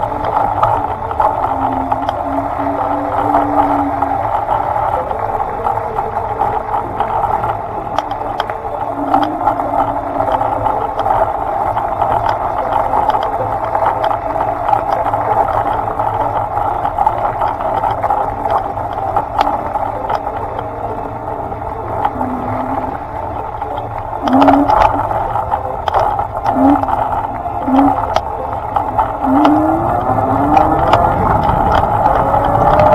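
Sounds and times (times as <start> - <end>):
rattling on bumpy road: 0.0 - 32.9
scattered clicks: 0.0 - 32.9
small vehicle running: 0.0 - 32.9.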